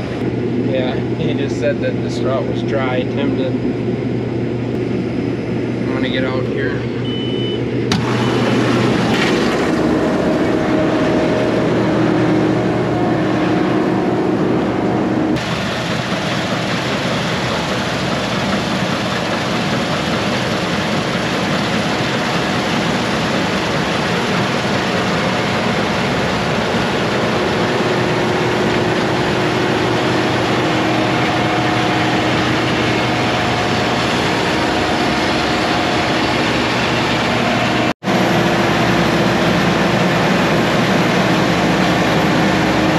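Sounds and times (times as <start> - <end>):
heavy farm machinery droning: 0.0 - 42.9.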